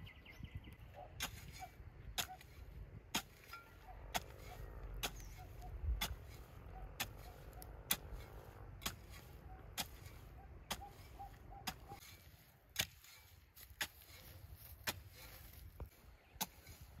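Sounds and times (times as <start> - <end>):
hand tool chopping: 2.2 - 16.8.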